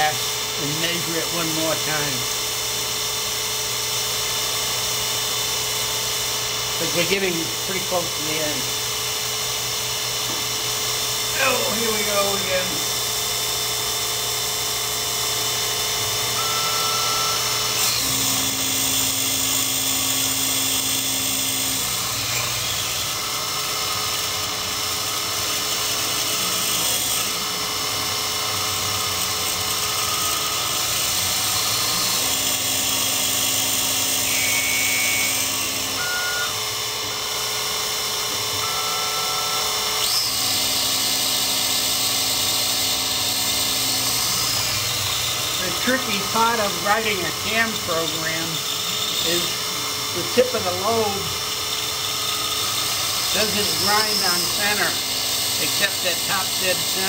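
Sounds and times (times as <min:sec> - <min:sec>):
grinding wheel grinding metal: 0:00.0 - 0:57.0.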